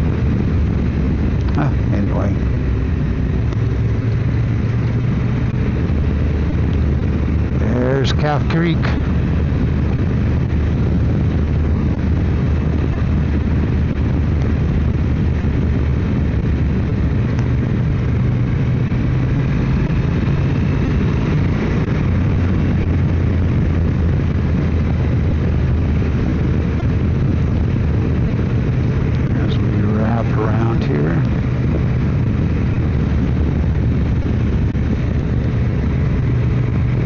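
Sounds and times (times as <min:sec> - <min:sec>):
motorcycle engine running: 0:00.0 - 0:37.0
wind noise: 0:00.0 - 0:37.0.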